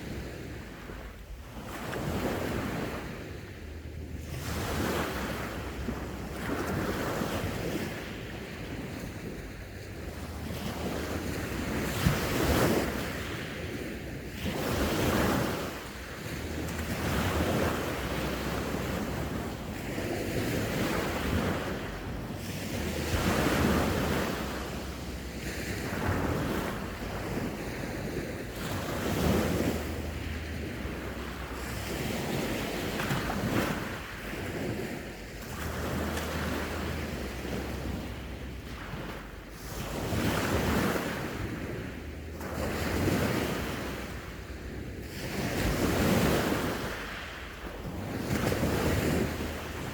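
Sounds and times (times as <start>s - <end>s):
sea waves breaking: 0.0s - 49.9s
wind buffeting microphone: 0.0s - 49.9s.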